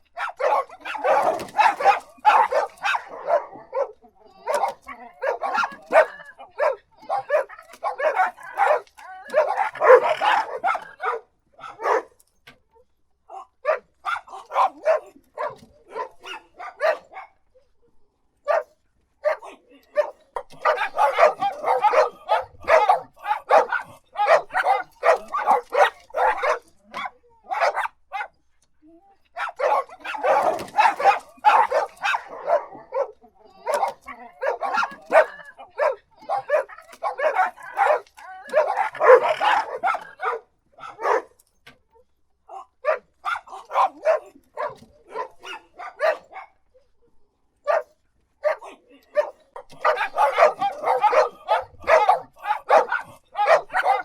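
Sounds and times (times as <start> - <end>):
dog barking: 0.1 - 12.2, 13.3 - 17.4, 18.4 - 28.4, 29.4 - 41.4, 42.5 - 46.9, 47.6 - 54.0.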